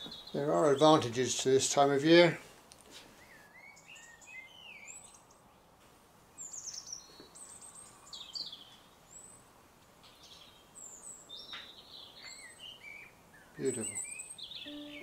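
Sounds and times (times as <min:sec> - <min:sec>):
faint outdoor background: 0:00.0 - 0:15.0
songbirds chirping: 0:00.0 - 0:15.0.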